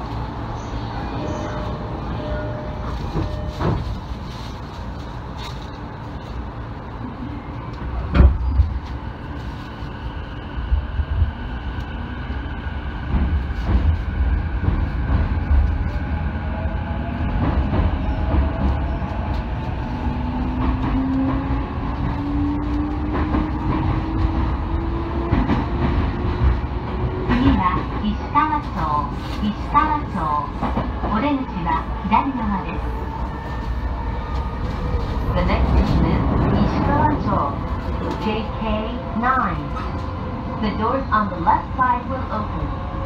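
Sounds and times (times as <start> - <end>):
wheels rumbling on rail: 0.0 - 43.0.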